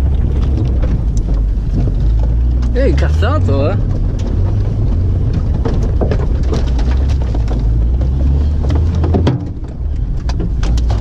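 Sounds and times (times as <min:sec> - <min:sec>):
car body rattling and knocking: 0:00.0 - 0:11.0
car engine drone: 0:00.0 - 0:11.0.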